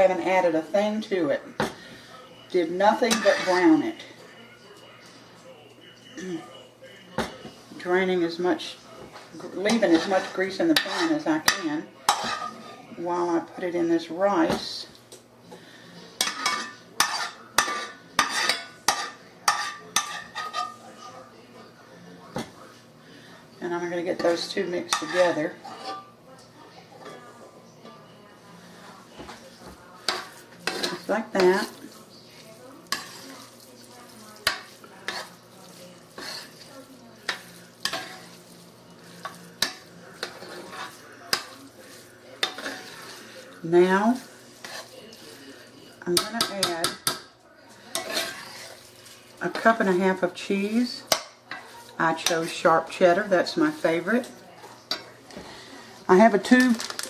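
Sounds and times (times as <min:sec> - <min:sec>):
spoon scraping food in pan: 0:00.0 - 0:04.2, 0:07.2 - 0:13.7, 0:14.5 - 0:21.2, 0:22.4 - 0:57.0
faint sizzle: 0:00.0 - 0:57.0.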